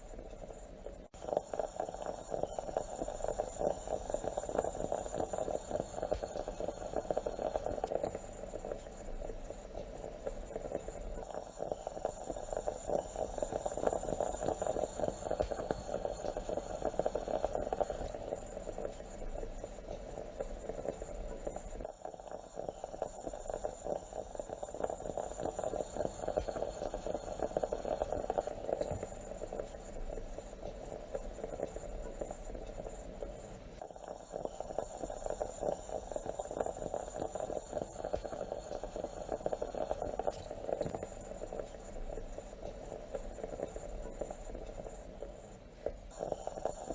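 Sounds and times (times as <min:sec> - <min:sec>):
moka pot gurgling and sputtering: 0:00.0 - 0:46.9.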